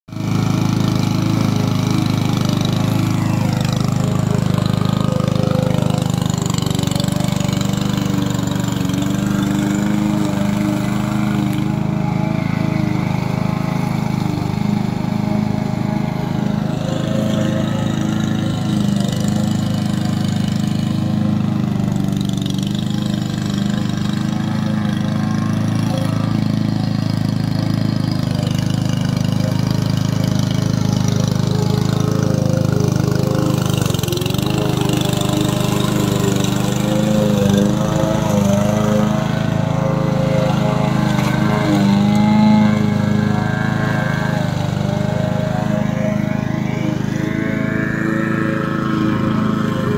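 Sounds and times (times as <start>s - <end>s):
lawn mower engine running: 0.1s - 49.9s.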